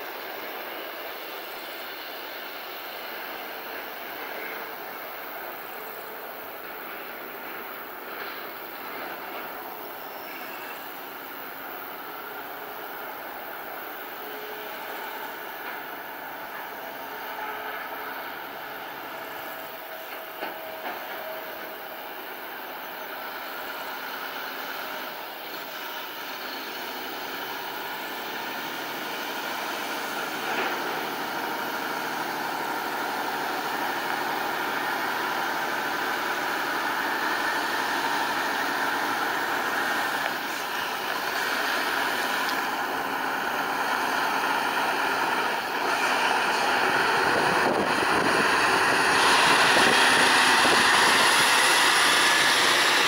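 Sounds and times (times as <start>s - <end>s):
diesel truck engine driving: 0.0s - 53.0s.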